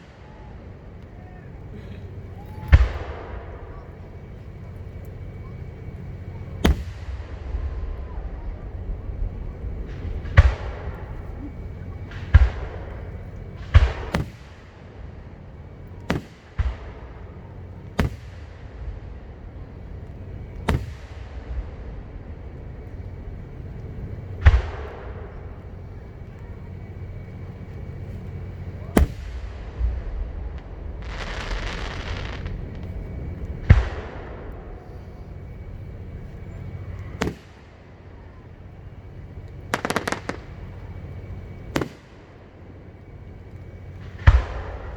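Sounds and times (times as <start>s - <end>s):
crackling hiss: 0.0s - 44.9s
fireworks booming: 0.0s - 44.9s.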